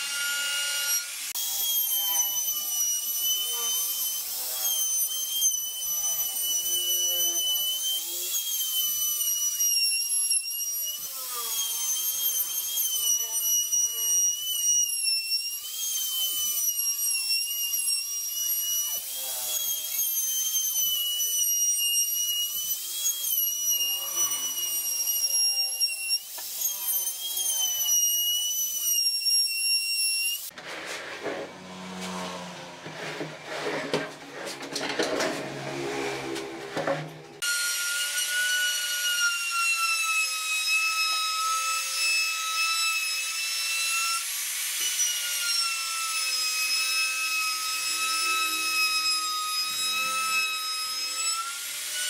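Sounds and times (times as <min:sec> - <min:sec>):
electric router whining: 0:00.0 - 0:52.0.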